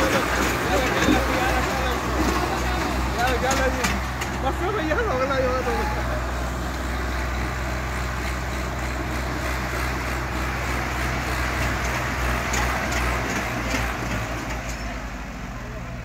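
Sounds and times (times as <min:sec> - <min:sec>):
tractor engines under load: 0:00.0 - 0:16.0.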